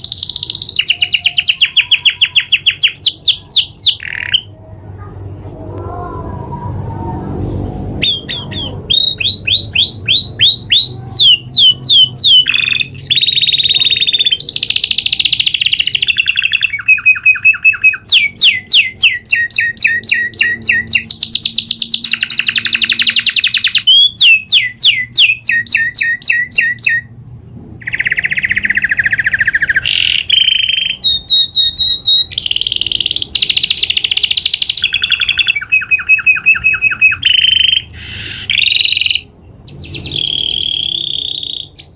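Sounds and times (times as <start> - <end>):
canary singing trills: 0.0 - 5.3, 7.4 - 27.2, 27.8 - 41.9.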